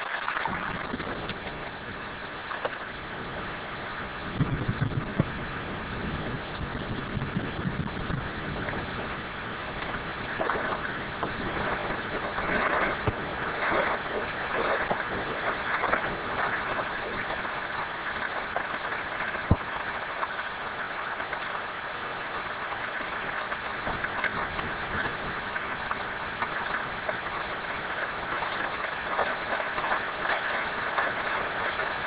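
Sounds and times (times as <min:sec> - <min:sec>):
heavy rain on foliage and paving: 0:00.0 - 0:32.0.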